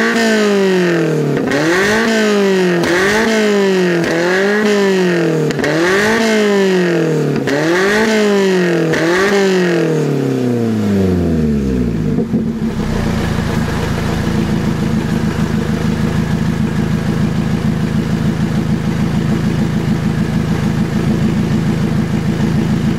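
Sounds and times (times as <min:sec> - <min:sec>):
car engine revving and idling: 0:00.0 - 0:22.9.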